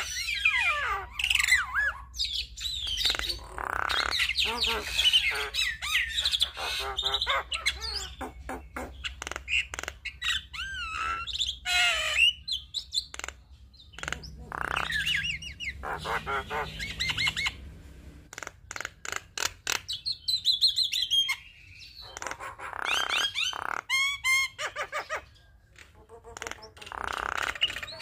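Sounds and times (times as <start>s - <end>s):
myna bird chattering song: 0.0s - 17.6s, 18.3s - 28.0s.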